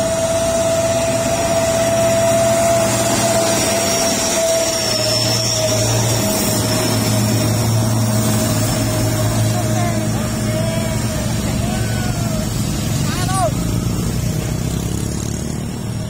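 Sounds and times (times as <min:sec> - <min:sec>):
diesel truck engine drone: 0:00.0 - 0:16.0
high whine: 0:00.0 - 0:16.0
tyres hissing on wet road: 0:00.0 - 0:16.0.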